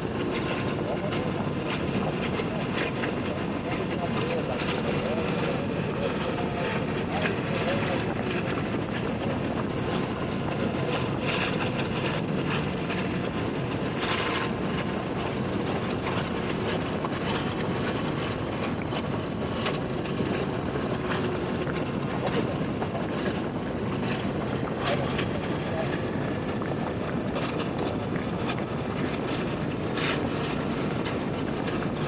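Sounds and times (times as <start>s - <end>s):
wind buffeting crackles: 0.0s - 32.0s
wind noise on microphone: 0.0s - 32.0s.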